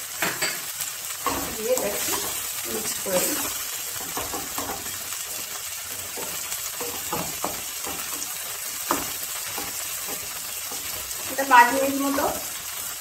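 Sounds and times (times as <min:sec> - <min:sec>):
onions sizzling in a pan: 0:00.0 - 0:13.0
wooden spatula scraping: 0:01.2 - 0:12.5.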